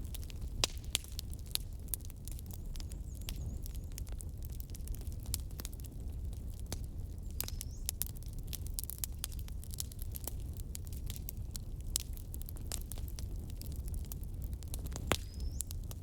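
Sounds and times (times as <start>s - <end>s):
burning wood crackling and popping: 0.0s - 16.0s
low rumble of flame: 0.0s - 16.0s.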